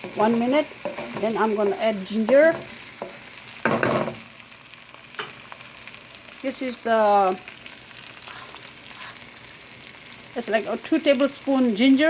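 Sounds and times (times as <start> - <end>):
stirring in a pan: 0.0 - 11.9
garlic sizzling in oil: 0.0 - 12.0.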